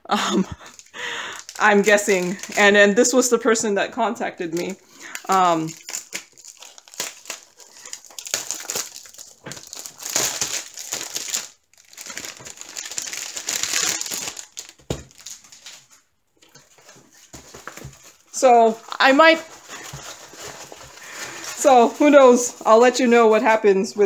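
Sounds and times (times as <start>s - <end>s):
plastic packaging crinkling: 0.3s - 3.5s, 4.3s - 24.0s.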